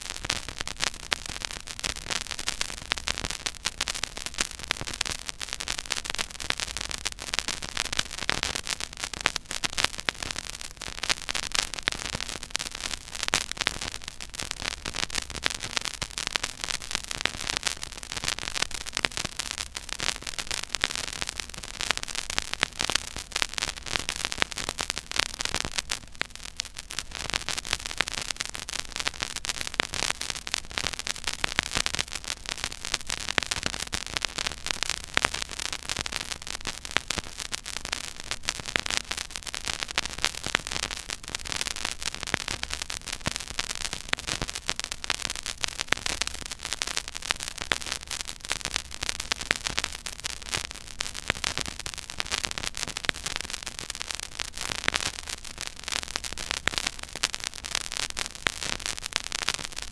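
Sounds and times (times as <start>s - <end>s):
vinyl crackle and pops: 0.0s - 59.9s.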